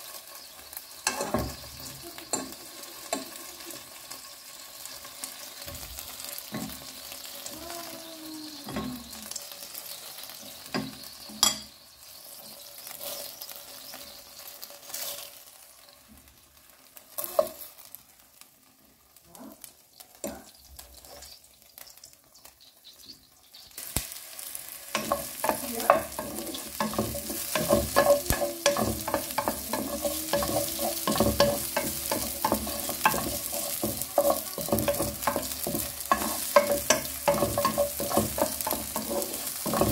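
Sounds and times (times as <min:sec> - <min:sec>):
spatula stirring in pan: 0:00.0 - 0:18.4, 0:24.1 - 0:39.9
chicken wings frying in oil: 0:00.0 - 0:39.9
onion and garlic sizzling: 0:00.0 - 0:39.9.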